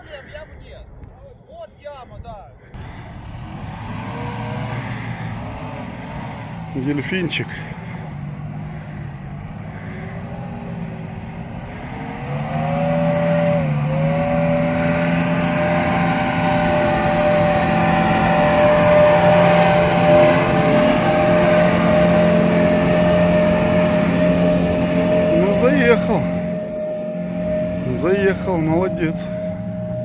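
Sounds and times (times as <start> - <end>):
engine revving hard: 2.8 - 30.0.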